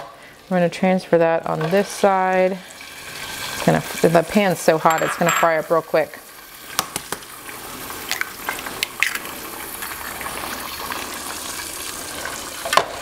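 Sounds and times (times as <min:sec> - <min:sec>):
eggs sizzling in a skillet: 0:00.0 - 0:13.0.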